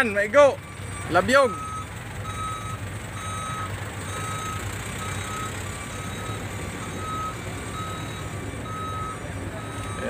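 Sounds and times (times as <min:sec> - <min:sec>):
low engine hum: 0:00.0 - 0:10.0
reversing alarm beeping: 0:00.0 - 0:10.0.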